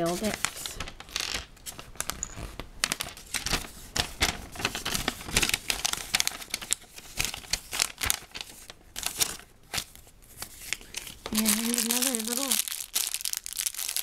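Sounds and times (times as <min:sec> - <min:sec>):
paper and plastic bags crinkling: 0:00.0 - 0:14.0.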